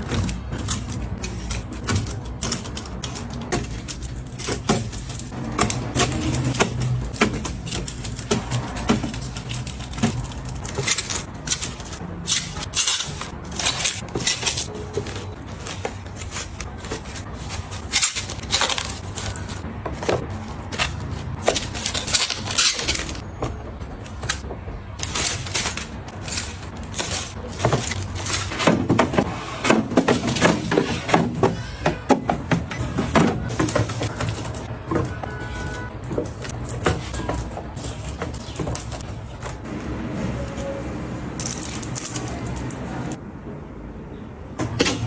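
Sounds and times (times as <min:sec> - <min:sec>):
household items tapping and clicking: 0:00.0 - 0:39.7.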